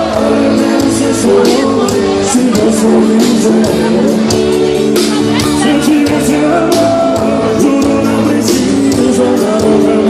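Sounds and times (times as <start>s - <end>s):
live band music: 0.0s - 10.0s.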